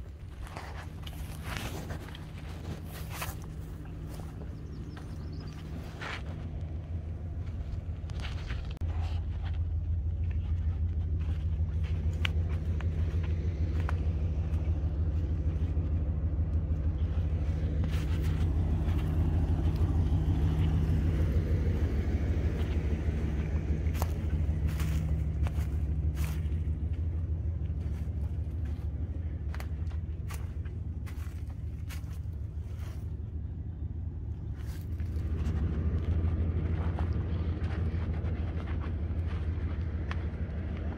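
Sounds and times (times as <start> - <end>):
deep hum: 0.0 - 40.9
low rumble: 0.0 - 40.9.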